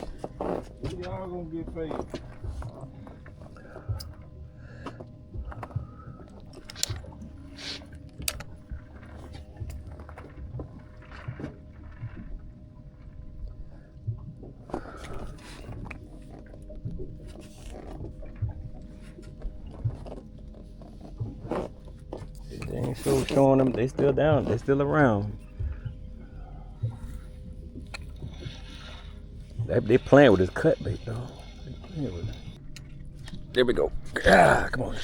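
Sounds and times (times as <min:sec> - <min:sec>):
gear knocking against hull: 0:00.0 - 0:35.0
low steady rumble: 0:00.0 - 0:35.0.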